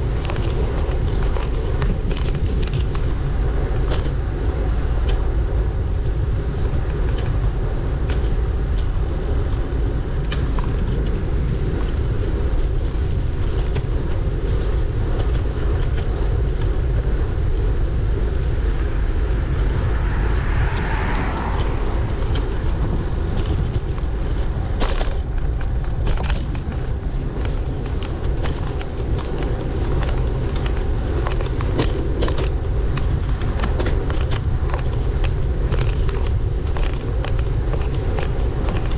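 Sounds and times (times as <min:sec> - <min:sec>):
bicycle road rumble: 0:00.0 - 0:38.9
bike rattles and knocks: 0:00.0 - 0:38.9
wind on microphone: 0:00.0 - 0:38.9.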